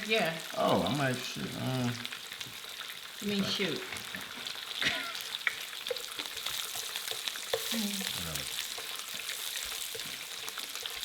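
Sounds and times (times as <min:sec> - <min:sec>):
burger patties sizzling on grill: 0:00.0 - 0:11.0.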